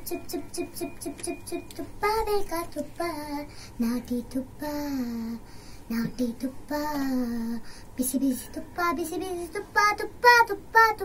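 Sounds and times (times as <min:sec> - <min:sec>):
girl singing unaccompanied: 0:00.0 - 0:11.0.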